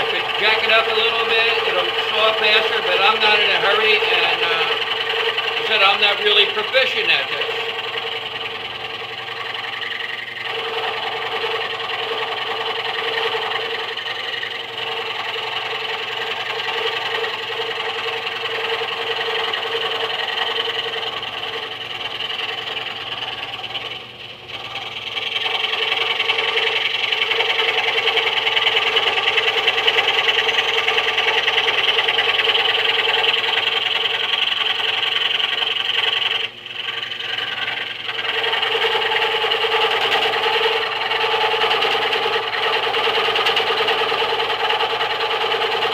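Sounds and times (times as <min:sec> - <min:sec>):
scroll saw cutting wood: 0:00.0 - 0:45.9.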